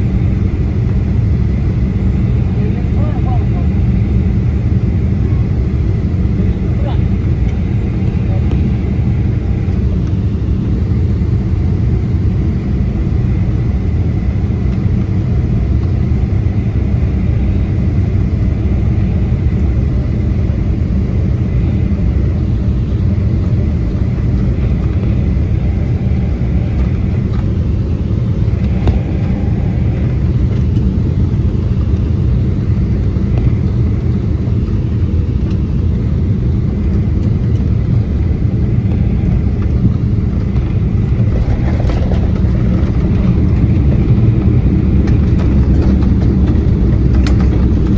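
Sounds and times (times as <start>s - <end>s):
airliner engines rumbling in cabin: 0.0s - 47.9s.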